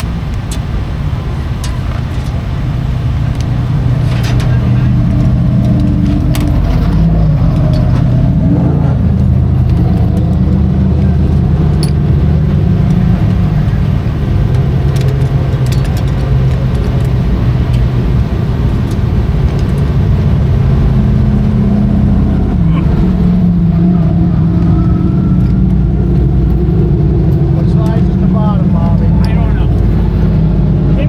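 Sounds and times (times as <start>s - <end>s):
race car engines running loudly: 0.0s - 31.0s.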